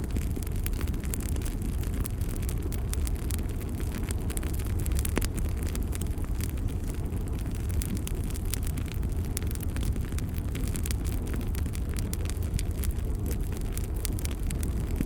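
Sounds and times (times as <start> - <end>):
fire crackling and popping: 0.0 - 15.0
low rumble of fire: 0.0 - 15.0.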